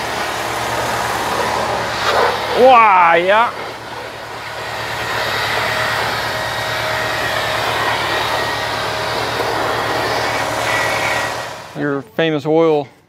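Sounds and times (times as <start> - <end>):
cordless power tool motor whirring: 0.0 - 11.8.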